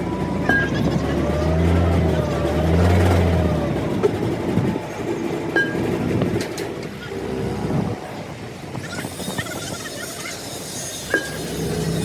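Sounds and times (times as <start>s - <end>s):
heavy engine humming: 0.0s - 12.0s.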